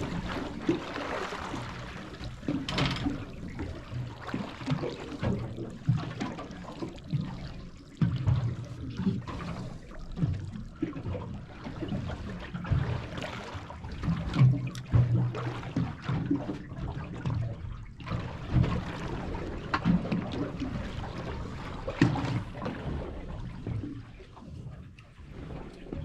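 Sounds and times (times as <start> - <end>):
low thuds and splashes: 0.0 - 26.0
water lapping against boat hull: 0.0 - 26.0.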